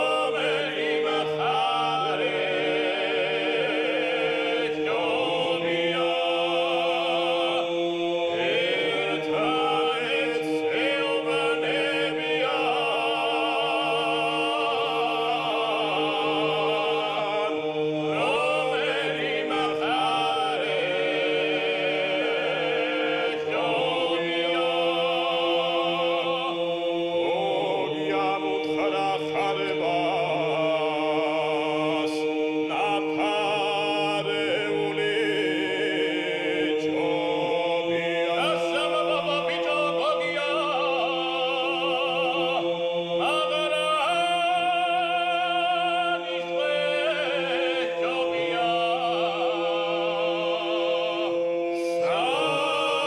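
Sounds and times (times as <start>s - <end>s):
voices singing with vibrato: 0.0s - 53.0s.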